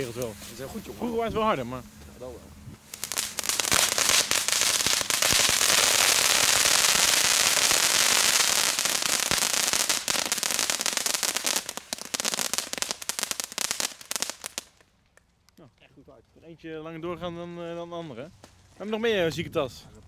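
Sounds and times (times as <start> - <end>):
firework cones crackling: 0.0 - 17.1.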